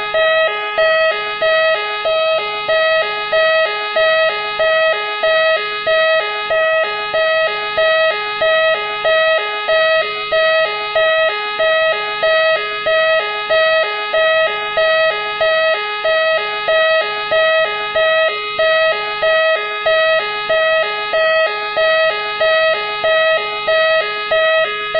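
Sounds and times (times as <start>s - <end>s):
two-tone police siren: 0.0s - 24.9s.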